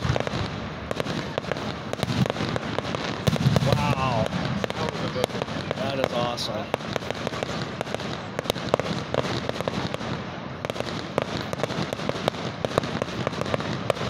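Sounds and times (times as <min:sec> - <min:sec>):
continuous crackling: 0:00.0 - 0:14.0
fireworks popping and banging: 0:00.0 - 0:14.0.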